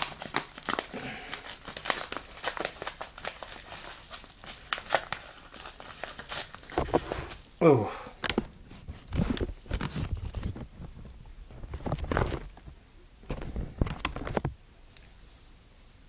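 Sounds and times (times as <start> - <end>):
parcel packaging rustling and knocking: 0.0 - 7.4, 8.2 - 14.6.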